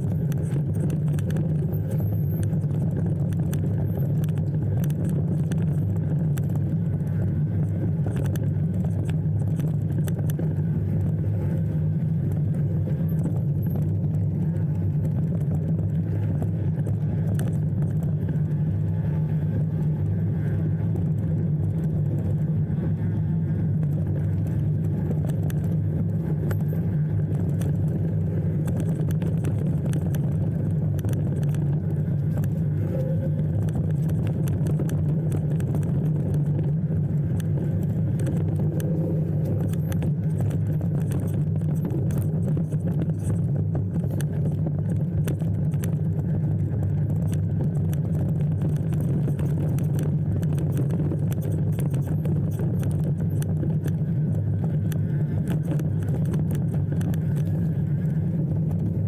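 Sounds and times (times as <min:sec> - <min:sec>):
light rattles and clicks: 0:00.0 - 0:59.0
vehicle engine drone: 0:00.0 - 0:59.0.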